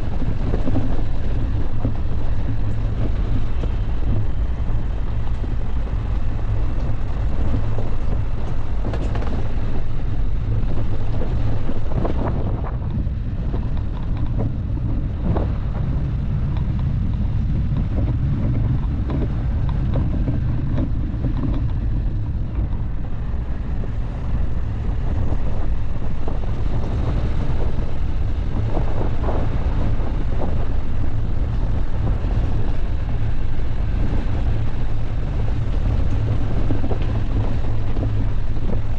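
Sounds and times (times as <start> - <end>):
knocks and rattles: 0.0 - 33.3
car engine and rolling rumble: 0.0 - 38.9.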